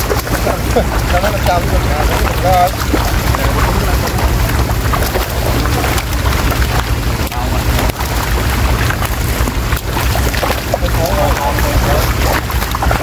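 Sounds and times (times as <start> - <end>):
fish splashing in water: 0.0 - 13.0
low rumble: 0.0 - 13.0.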